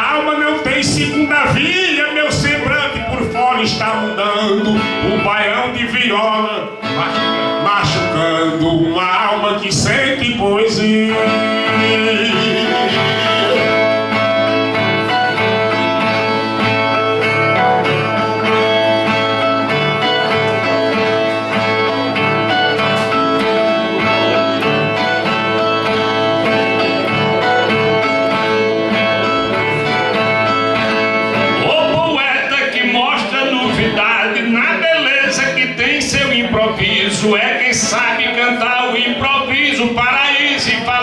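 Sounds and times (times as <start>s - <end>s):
folk guitar plucked and strummed: 0.0s - 41.0s.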